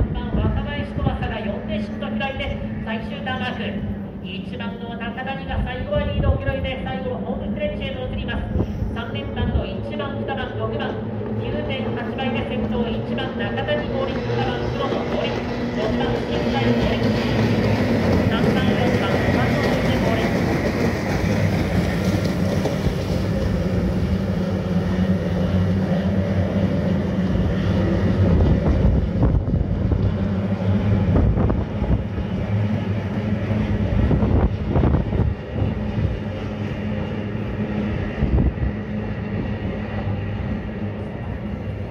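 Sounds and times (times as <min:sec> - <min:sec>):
wind buffeting microphone: 0:00.0 - 0:02.9, 0:05.4 - 0:07.0, 0:07.8 - 0:41.9
outboard engines droning: 0:07.1 - 0:41.9.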